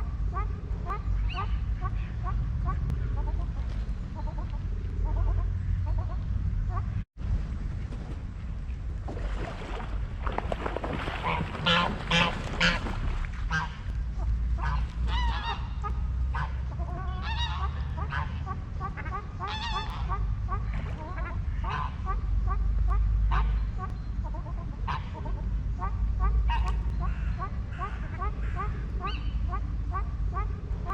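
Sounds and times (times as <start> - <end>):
waterfowl calling: 0.0 - 7.0, 10.6 - 30.9
low rumble: 0.0 - 30.9.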